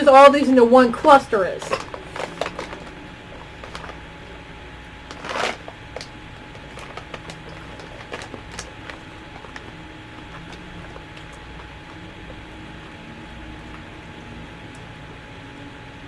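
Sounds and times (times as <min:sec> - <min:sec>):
low hum: 0:00.0 - 0:16.0
snack clusters crackling: 0:00.9 - 0:15.3.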